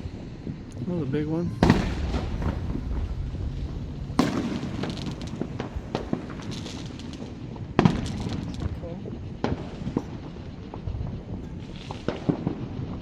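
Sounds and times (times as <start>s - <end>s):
fireworks booming: 0.0s - 13.0s
fireworks pops and crackles: 0.0s - 13.0s.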